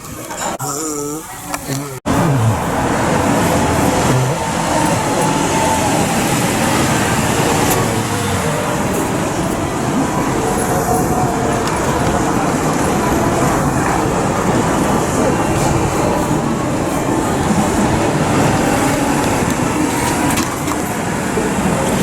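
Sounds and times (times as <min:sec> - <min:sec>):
vehicle noise rumble: 0:01.5 - 0:22.0.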